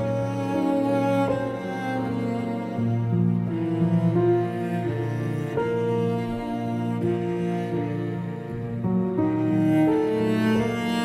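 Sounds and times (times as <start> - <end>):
slow music of low held notes: 0.0 - 11.0.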